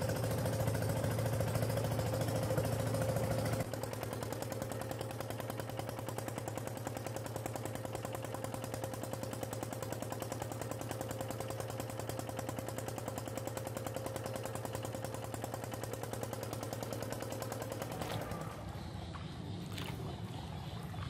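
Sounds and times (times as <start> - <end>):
small boat engine putting: 0.0 - 21.0.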